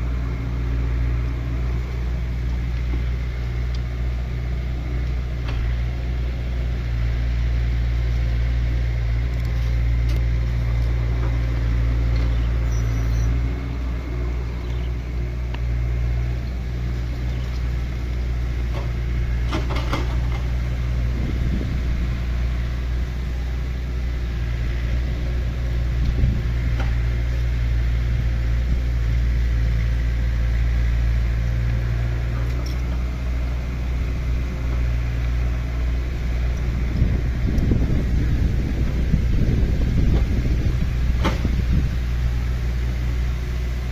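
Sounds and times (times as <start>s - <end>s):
excavator diesel engine rumbling: 0.0s - 43.9s.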